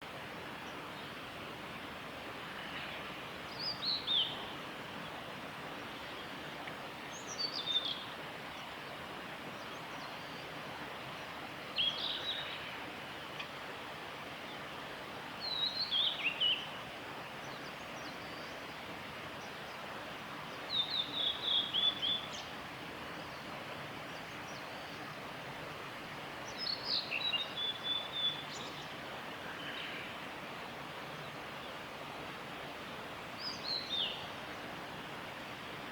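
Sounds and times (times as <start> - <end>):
steady background hiss: 0.0 - 35.9.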